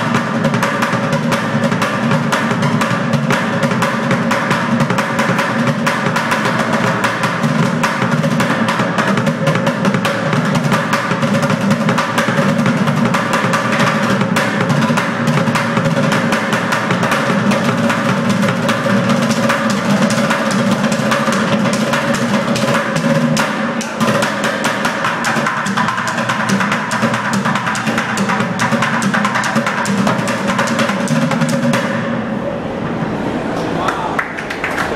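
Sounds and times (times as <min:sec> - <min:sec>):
drumming on plastic buckets: 0:00.0 - 0:32.0.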